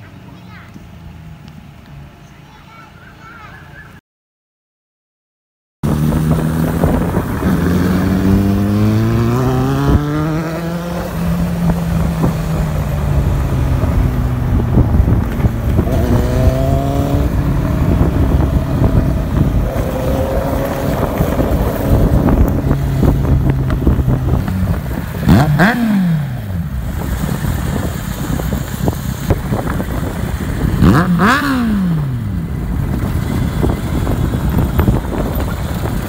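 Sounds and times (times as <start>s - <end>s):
motorcycle engine accelerating: 5.8s - 36.0s.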